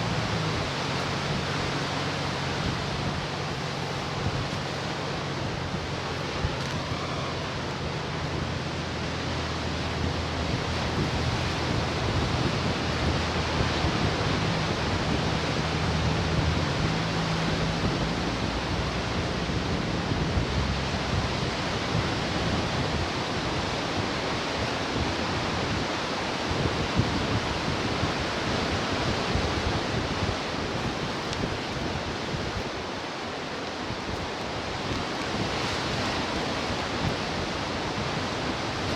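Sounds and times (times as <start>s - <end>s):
ocean surf washing ashore: 0.0s - 38.9s.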